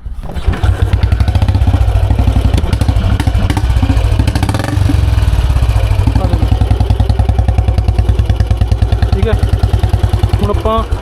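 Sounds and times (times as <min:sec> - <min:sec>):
motorcycle engine idling: 0:00.6 - 0:11.0.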